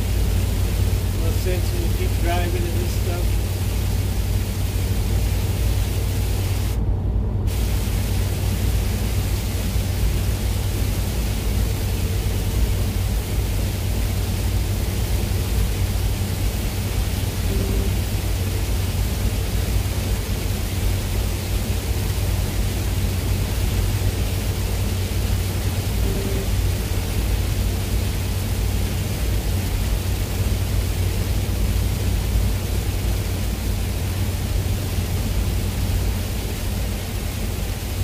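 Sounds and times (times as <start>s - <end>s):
even hiss: 0.0s - 6.8s, 7.5s - 38.0s
road and engine drone: 0.0s - 38.0s.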